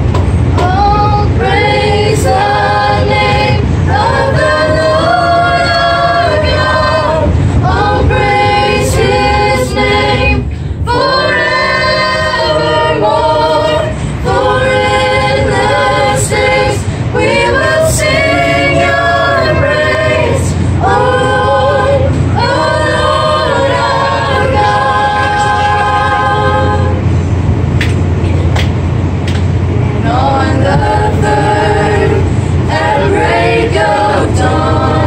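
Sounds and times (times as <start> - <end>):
subway car rumble: 0.0 - 35.0
group singing a cappella: 0.6 - 27.4, 29.8 - 35.0.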